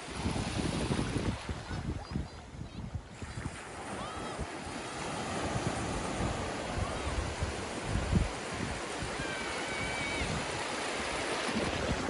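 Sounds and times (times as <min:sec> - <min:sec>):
ocean waves breaking on shore: 0:00.0 - 0:12.0.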